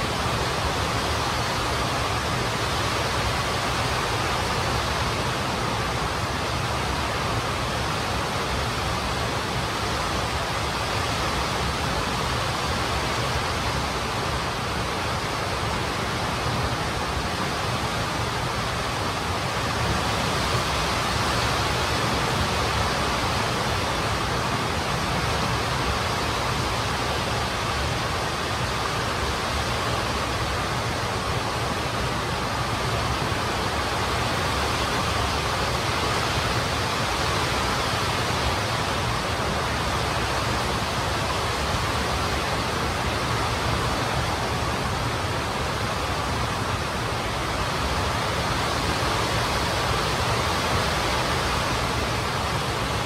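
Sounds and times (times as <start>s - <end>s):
steady rushing noise: 0.0s - 53.0s.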